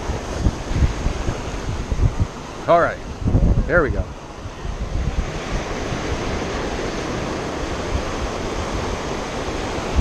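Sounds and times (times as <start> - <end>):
ocean surf washing: 0.0 - 10.0
wind rumbling on microphone: 0.0 - 10.0.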